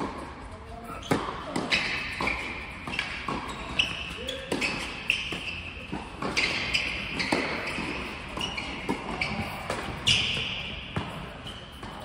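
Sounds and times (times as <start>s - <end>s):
tennis ball struck and bouncing: 1.1s - 12.0s.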